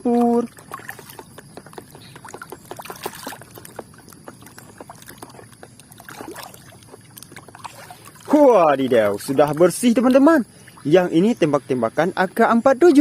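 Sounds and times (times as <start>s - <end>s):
water splashing and dripping: 0.0s - 11.5s.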